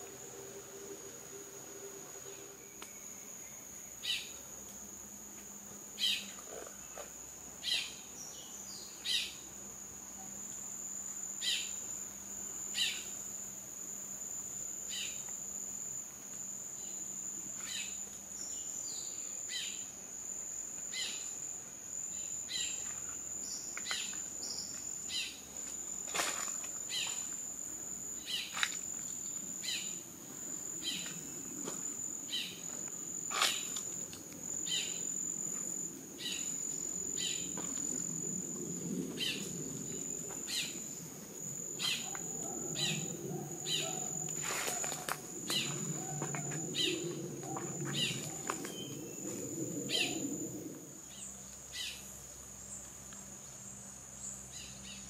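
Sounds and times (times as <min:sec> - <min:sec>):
high-pitched insect drone: 0:10.2 - 0:55.0.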